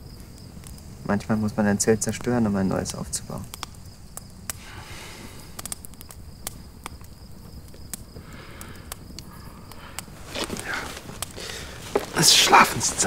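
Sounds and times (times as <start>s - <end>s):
campfire crackling: 0.0s - 13.0s
insects chirring: 0.0s - 13.0s.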